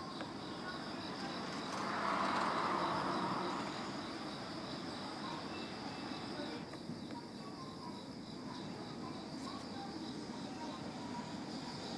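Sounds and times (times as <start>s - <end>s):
insects chirping: 0.0s - 11.9s.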